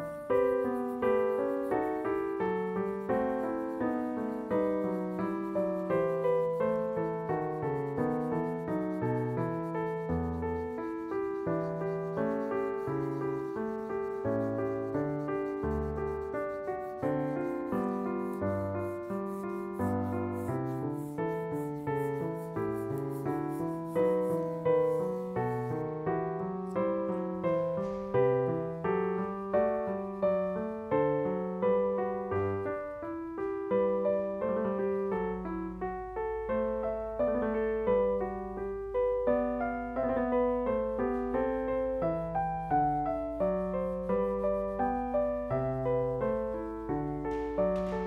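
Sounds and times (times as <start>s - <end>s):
slow piano music: 0.0s - 48.0s.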